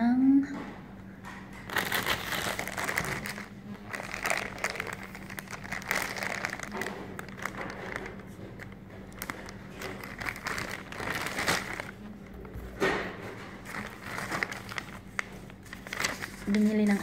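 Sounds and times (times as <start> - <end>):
plastic bag crinkling: 1.6 - 17.0.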